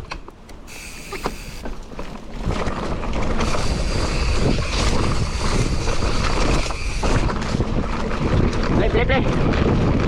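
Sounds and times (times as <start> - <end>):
wind buffeting microphone: 1.3 - 10.0.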